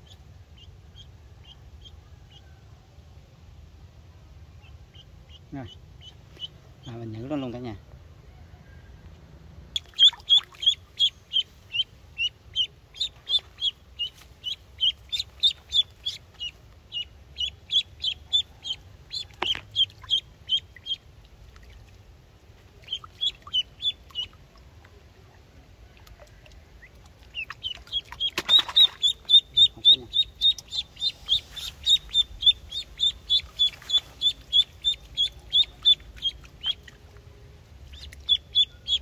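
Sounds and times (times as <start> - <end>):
duckling peeping: 0.0 - 2.5, 4.6 - 7.7, 9.7 - 22.0, 22.6 - 37.2, 37.8 - 39.0.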